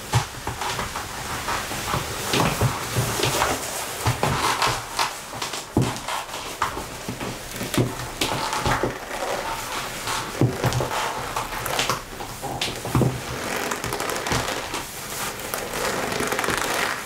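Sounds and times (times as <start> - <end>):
fabric rustling and crinkling: 0.0 - 17.0.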